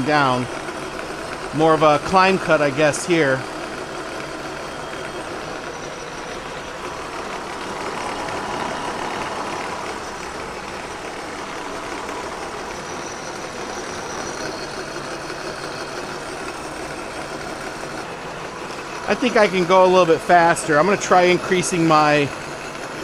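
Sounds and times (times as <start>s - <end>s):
milling machine cutting cast iron: 0.0s - 23.0s.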